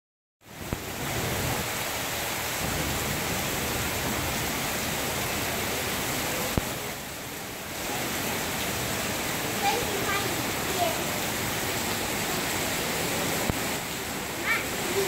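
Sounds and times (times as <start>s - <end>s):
heavy rain on paving and foliage: 0.4s - 15.0s.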